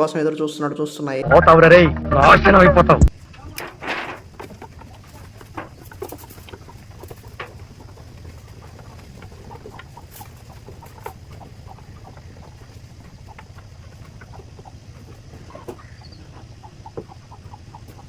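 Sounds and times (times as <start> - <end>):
animals tapping and clicking: 3.2 - 18.0.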